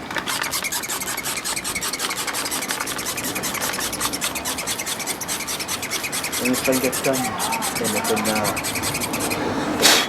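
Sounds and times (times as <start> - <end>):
file rubbing on hard surface: 0.2 - 9.6.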